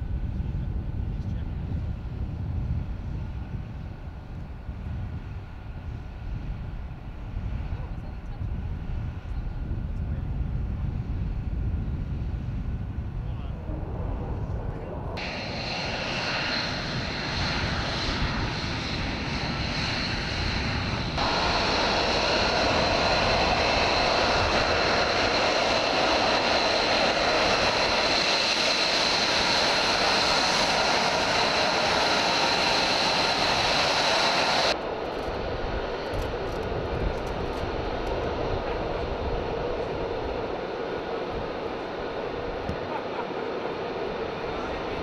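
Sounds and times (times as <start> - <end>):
jet engine rush with high whine: 0.0 - 45.0.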